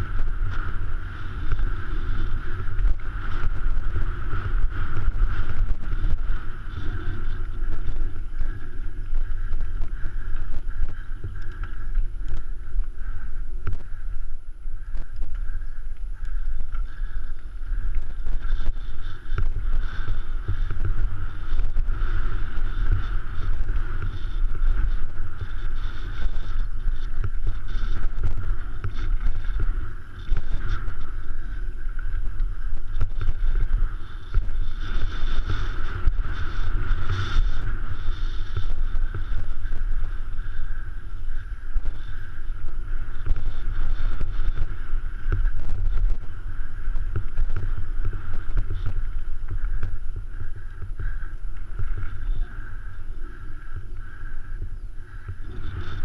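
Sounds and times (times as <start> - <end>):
bike rattling: 0.0 - 53.9
steady rumble: 0.0 - 56.0
wind buffeting microphone: 0.0 - 56.0.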